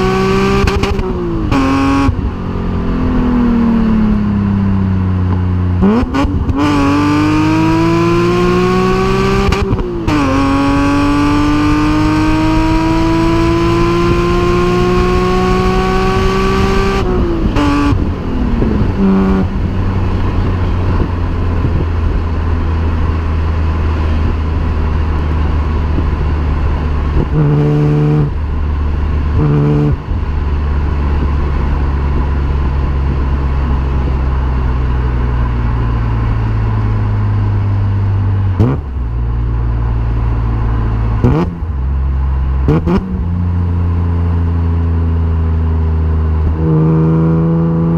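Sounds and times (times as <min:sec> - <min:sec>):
car engine accelerating: 0:00.0 - 0:47.9.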